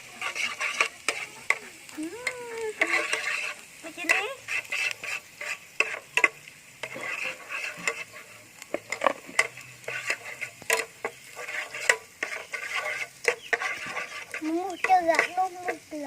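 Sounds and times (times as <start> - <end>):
faint sizzle: 0.0 - 16.0
utensil scraping against a pan: 0.0 - 16.0.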